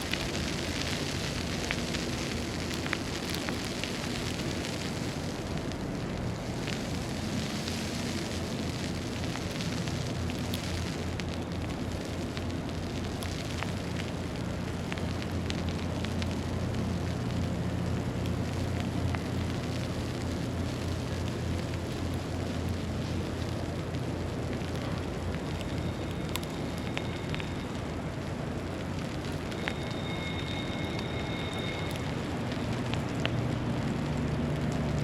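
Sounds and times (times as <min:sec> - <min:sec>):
fine crackling hiss: 0:00.0 - 0:35.0
low city rumble: 0:00.0 - 0:35.0.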